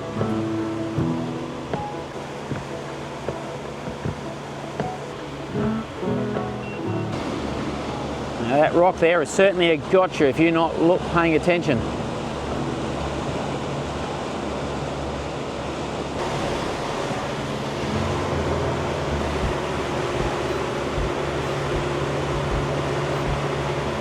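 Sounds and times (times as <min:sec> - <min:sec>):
boat engines humming: 0:00.0 - 0:24.0
water rushing: 0:00.0 - 0:24.0.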